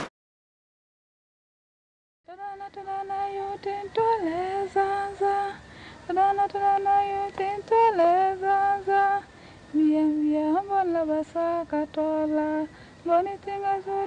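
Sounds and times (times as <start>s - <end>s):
woman singing slow melody: 2.3s - 14.0s.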